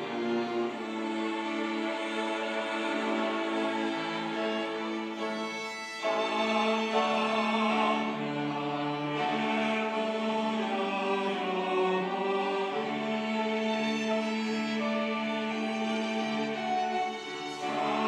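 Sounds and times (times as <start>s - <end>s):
church choir singing: 0.0s - 18.0s
instrumental accompaniment: 0.0s - 18.0s.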